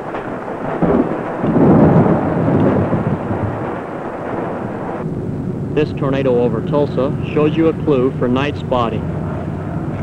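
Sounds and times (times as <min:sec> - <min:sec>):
thunder rumbling: 0:00.0 - 0:10.0.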